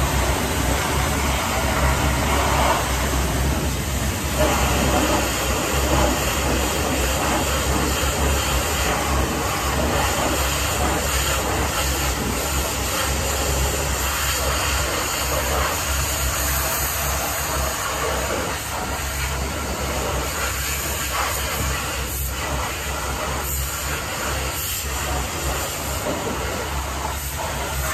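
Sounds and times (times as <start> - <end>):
pressure washer jet hissing: 0.0 - 27.9.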